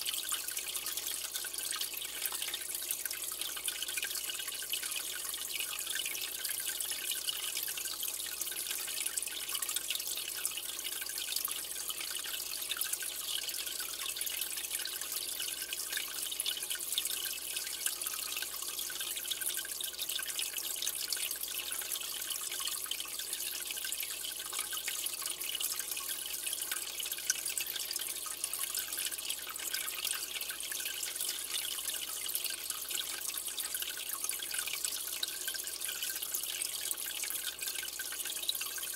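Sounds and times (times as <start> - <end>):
aquarium water trickling: 0.0 - 38.9.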